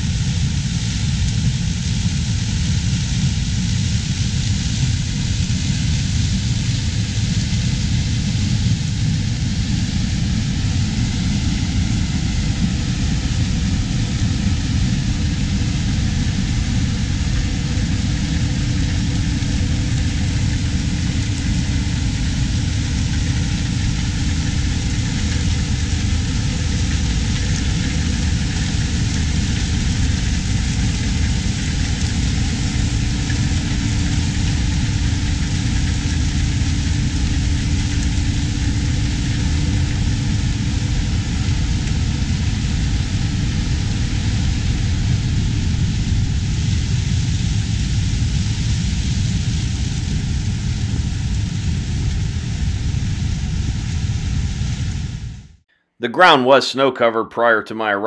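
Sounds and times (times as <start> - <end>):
combine harvester engine drone: 0.0 - 55.6.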